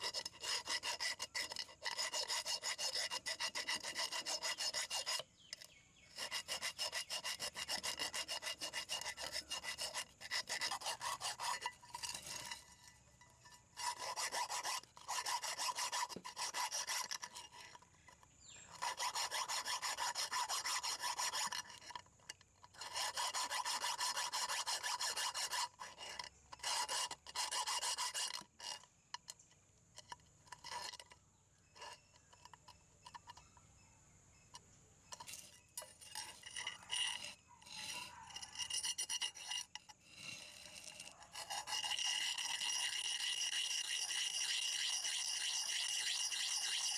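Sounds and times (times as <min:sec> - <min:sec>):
file rasping on metal: 0:00.0 - 0:29.3, 0:30.0 - 0:33.5, 0:35.2 - 0:46.9.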